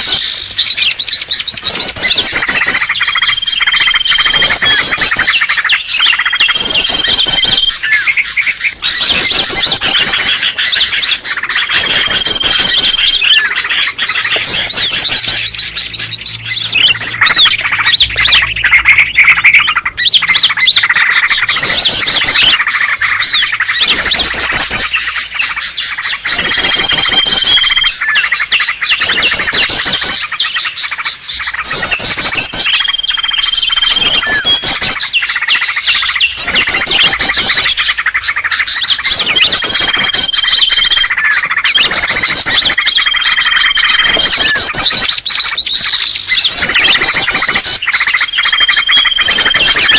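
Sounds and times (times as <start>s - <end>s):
birds chirping and trilling: 0.0s - 49.9s
long steady bird whistle: 0.0s - 49.9s.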